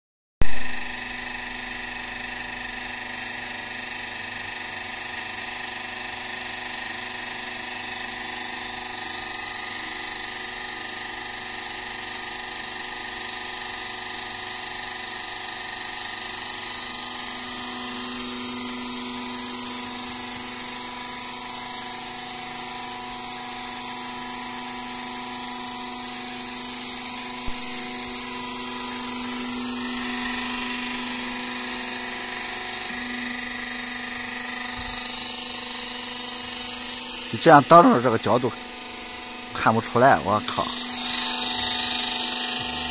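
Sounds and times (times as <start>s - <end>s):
hydraulic pump motor whine: 0.4s - 42.9s.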